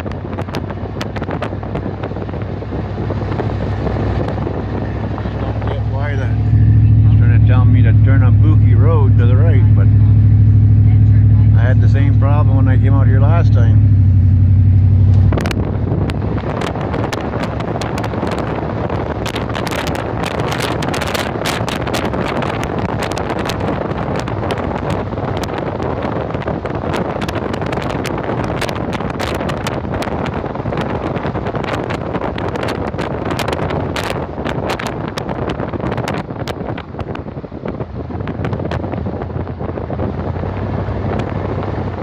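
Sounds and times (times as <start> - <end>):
vehicle driving on wet road: 0.0 - 42.0.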